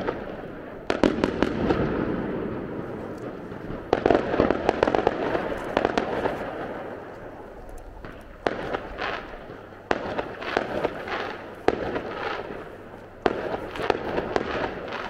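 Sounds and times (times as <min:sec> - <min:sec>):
firework crackling tail: 0:00.0 - 0:15.0
firework shells bursting: 0:00.0 - 0:15.0.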